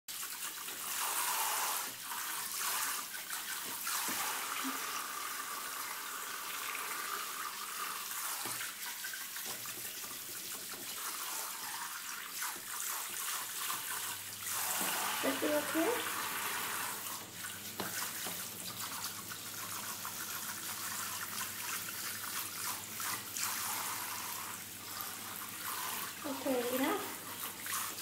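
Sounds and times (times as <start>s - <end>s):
water spraying from shower head: 0.3s - 8.8s, 10.8s - 28.0s.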